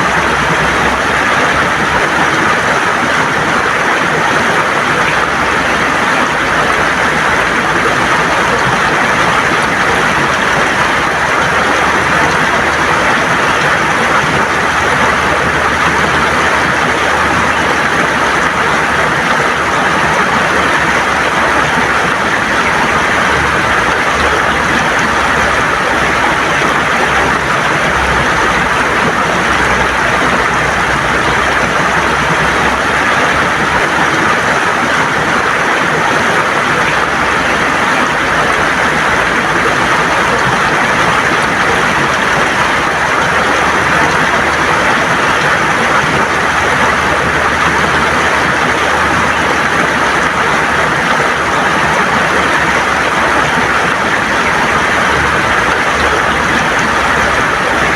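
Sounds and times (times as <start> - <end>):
river water gurgling over stones: 0.0 - 57.9.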